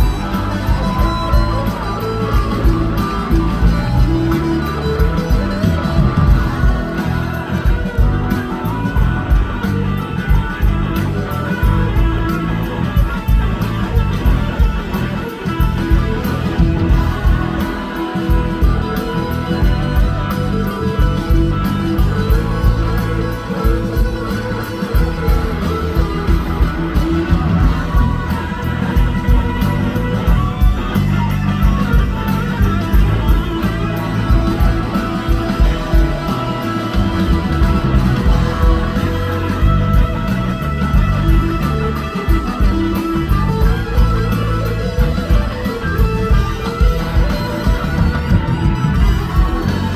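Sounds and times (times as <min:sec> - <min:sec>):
bass guitar: 0:00.0 - 0:49.9
electric guitar: 0:00.0 - 0:49.9
steady drum beat: 0:00.0 - 0:49.9.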